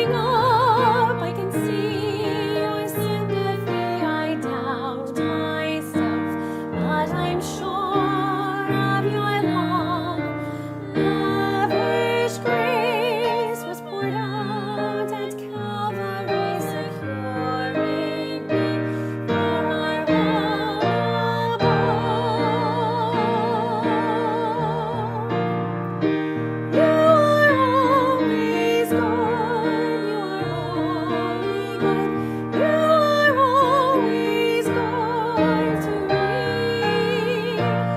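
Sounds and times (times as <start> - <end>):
person singing with vibrato: 0.0 - 25.5, 26.7 - 37.9
piano accompaniment: 0.0 - 37.9.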